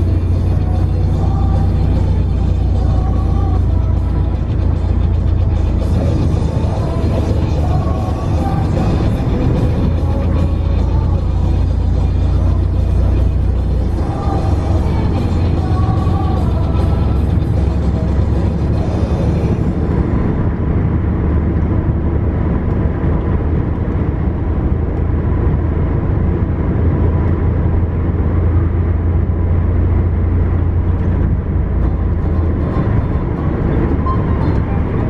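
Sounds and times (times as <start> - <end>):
vehicle engine and tyre rumble: 0.0 - 35.0.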